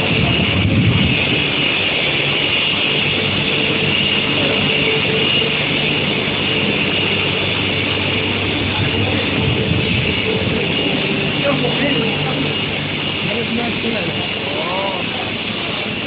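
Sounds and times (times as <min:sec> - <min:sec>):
roller conveyor and motors running: 0:00.0 - 0:16.0
steady high whine: 0:00.0 - 0:16.0.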